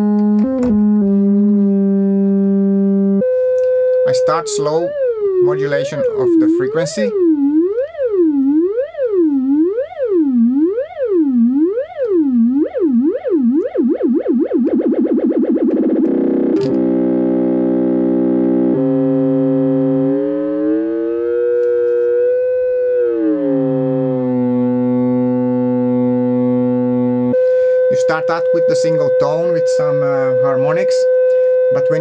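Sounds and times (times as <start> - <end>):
synthesizer tone: 0.0 - 32.0.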